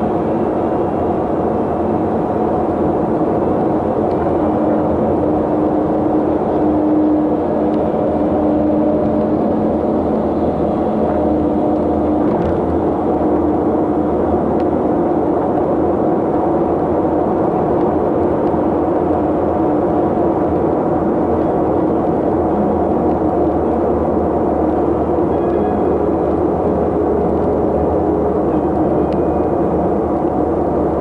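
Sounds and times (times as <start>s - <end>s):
low steady hum: 0.0s - 31.0s
vehicle engine and road noise: 0.0s - 31.0s.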